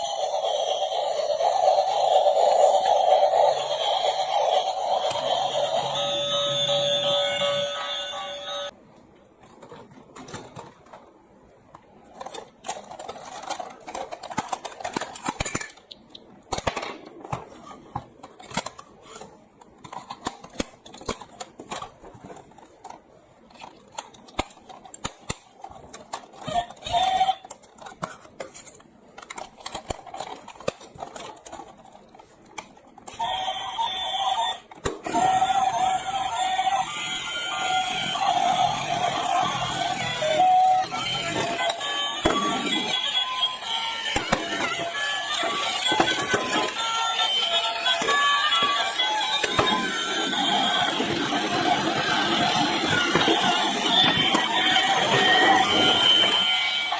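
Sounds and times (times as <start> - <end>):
plastic toys clattering: 9.4 - 11.1, 12.1 - 56.9.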